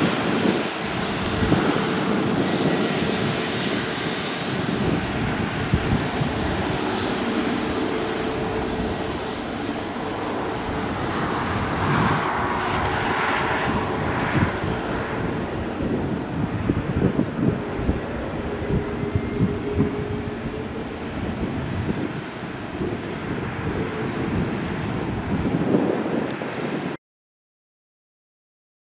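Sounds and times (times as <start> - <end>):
jet engines running: 0.0 - 27.0
wind buffeting microphone: 0.0 - 27.0.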